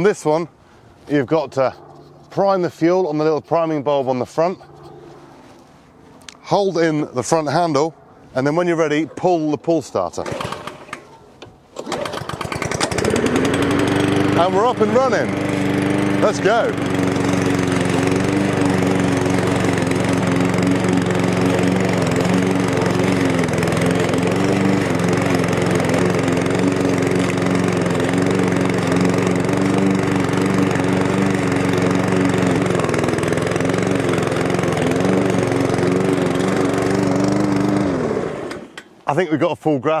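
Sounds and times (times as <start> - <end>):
lawn mower engine cutting grass: 0.0 - 39.3.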